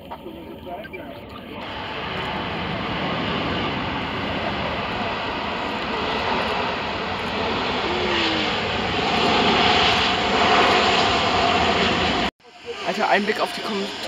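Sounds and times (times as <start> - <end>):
steady engine whine: 0.0 - 14.0
jet engine rushing noise: 0.6 - 14.0.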